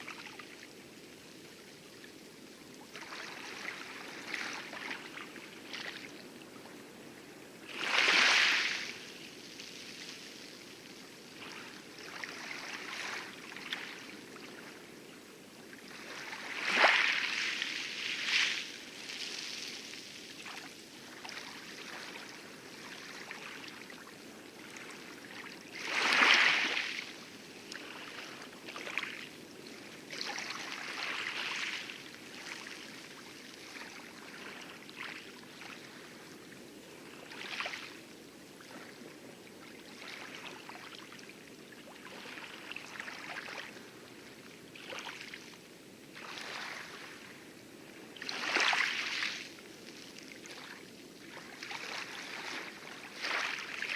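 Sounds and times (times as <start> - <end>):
waves lapping and splashing: 0.0 - 53.9.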